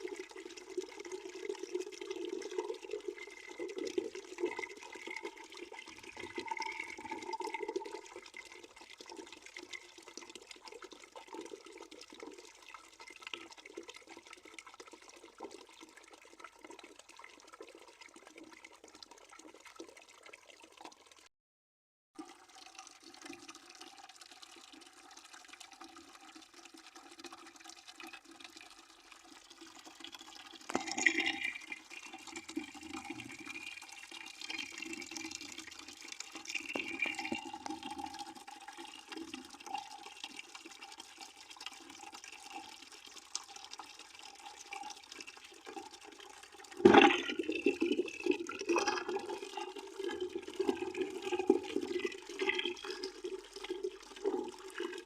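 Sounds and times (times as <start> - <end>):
water pouring into a bucket: 0.0 - 21.3, 22.2 - 55.0.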